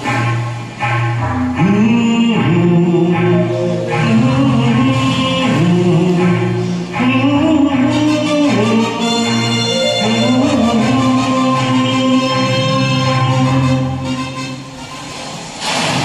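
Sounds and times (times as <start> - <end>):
film song backing track: 0.0 - 16.0.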